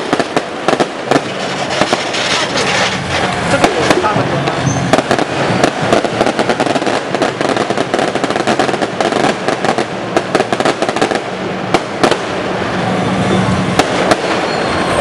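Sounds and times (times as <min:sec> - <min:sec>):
fireworks and firecrackers banging: 0:00.0 - 0:15.0.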